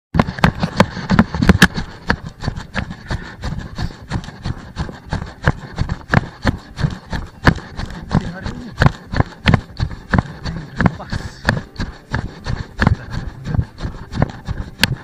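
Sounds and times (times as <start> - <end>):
footsteps on a trail: 0.2 - 15.0.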